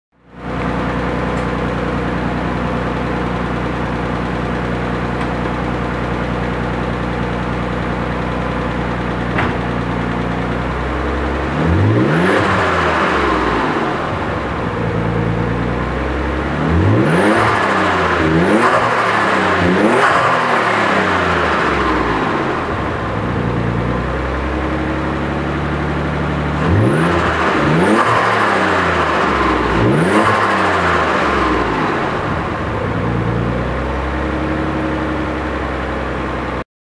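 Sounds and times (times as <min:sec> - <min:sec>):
car engine idling and revving: 0:00.2 - 0:36.6.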